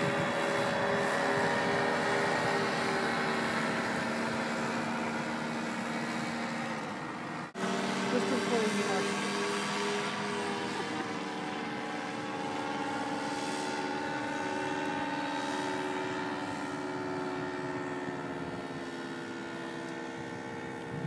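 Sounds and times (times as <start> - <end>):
paramotor engine droning overhead: 0.0 - 21.0.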